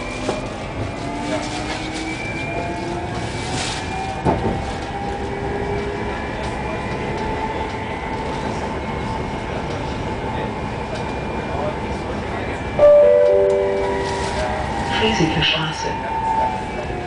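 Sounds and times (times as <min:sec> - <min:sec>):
tram wheels rumbling on rails: 0:00.0 - 0:17.0.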